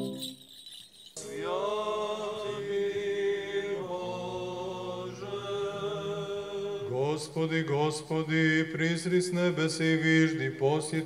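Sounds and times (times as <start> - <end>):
choir chanting unaccompanied: 1.2 - 11.0.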